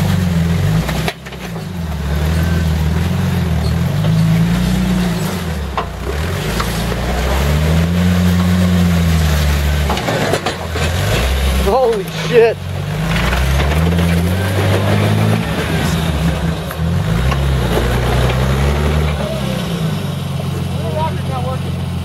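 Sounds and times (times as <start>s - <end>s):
engine pulling at low speed: 0.0s - 22.0s.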